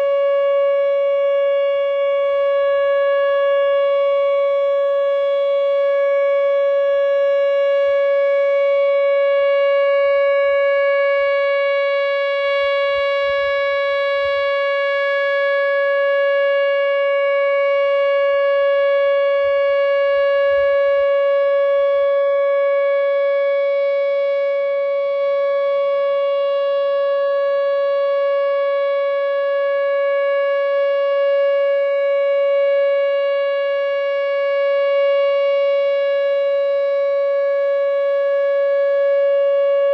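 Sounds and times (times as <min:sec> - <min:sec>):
electronic siren steady tone: 0:00.0 - 0:39.9.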